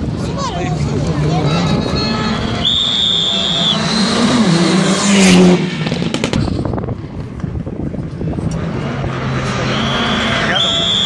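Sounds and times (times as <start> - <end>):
rally car engine revving: 0.0 - 6.8, 8.3 - 11.0.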